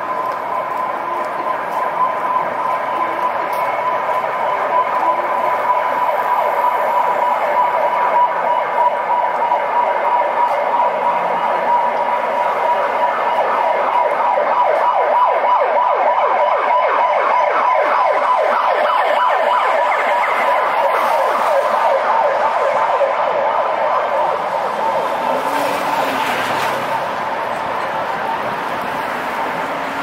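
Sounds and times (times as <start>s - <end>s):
siren yelping: 0.0s - 30.0s.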